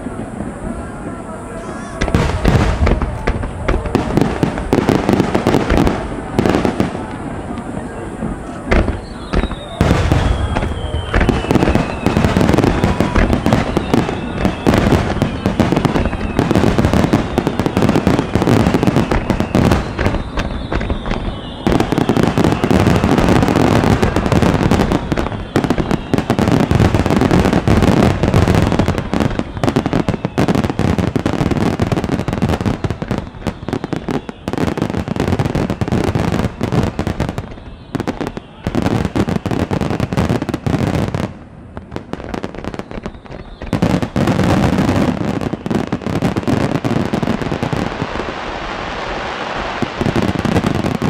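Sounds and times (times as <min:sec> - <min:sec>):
firework falling whistles: 0:00.0 - 0:41.3, 0:42.0 - 0:51.0
fireworks booms and crackles: 0:00.0 - 0:51.0.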